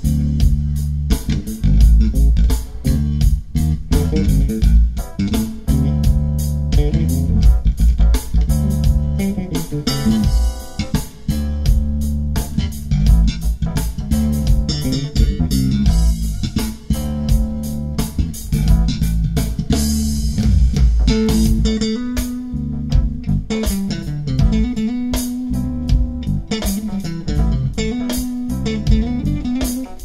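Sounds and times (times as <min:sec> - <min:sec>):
electric bass lines: 0:00.0 - 0:30.0
percussive hits: 0:00.0 - 0:30.0.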